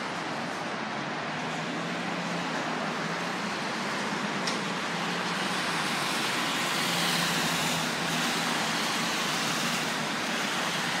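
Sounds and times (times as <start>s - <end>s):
highway traffic: 0.0s - 11.0s.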